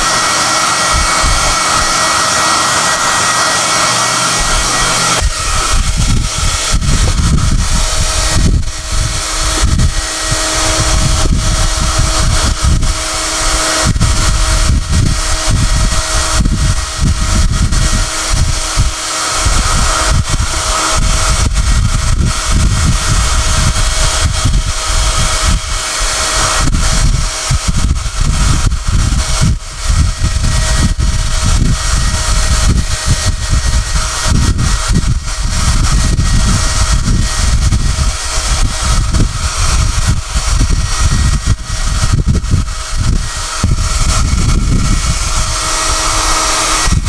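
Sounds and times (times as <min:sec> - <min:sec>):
air buffeting microphone: 0:00.0 - 0:47.0
hair dryer whining: 0:00.0 - 0:47.0.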